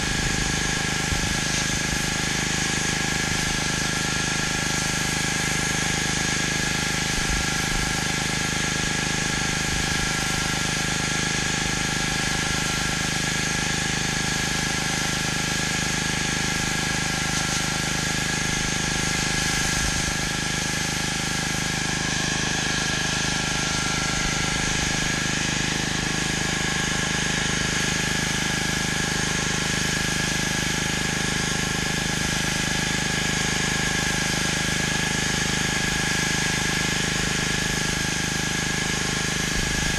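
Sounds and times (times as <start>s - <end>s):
high-pressure water spray hiss: 0.0s - 39.9s
pressure washer engine running: 0.0s - 39.9s.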